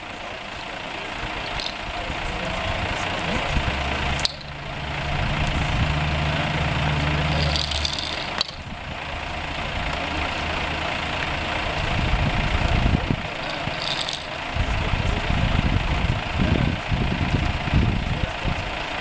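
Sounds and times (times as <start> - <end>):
pump engine running: 0.0 - 19.0.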